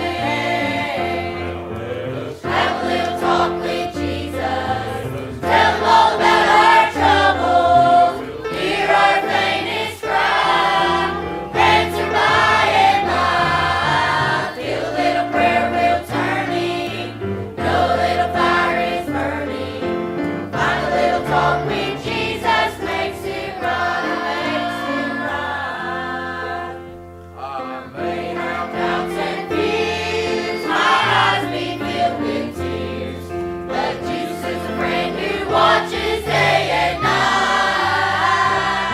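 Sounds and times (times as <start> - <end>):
choir singing a hymn: 0.0 - 38.9
instrumental accompaniment: 0.0 - 38.9.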